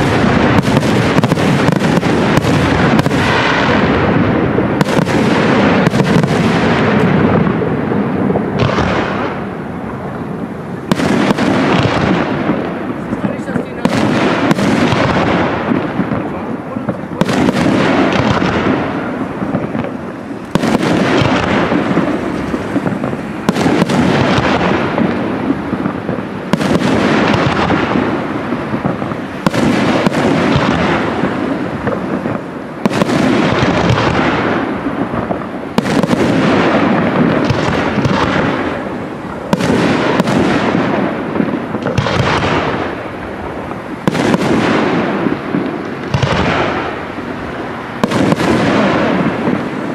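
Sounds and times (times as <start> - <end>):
firework shells bursting: 0.0 - 49.9.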